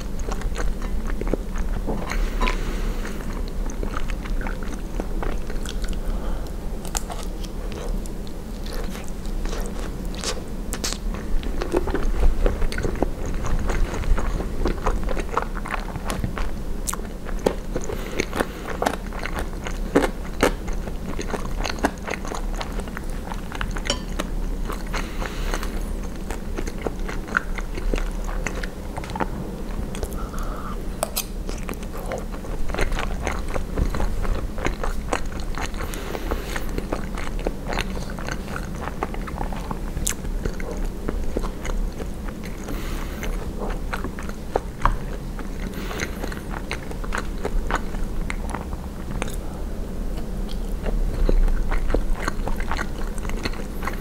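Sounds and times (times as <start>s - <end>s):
low steady hum: 0.0s - 54.0s
person chewing: 0.0s - 54.0s.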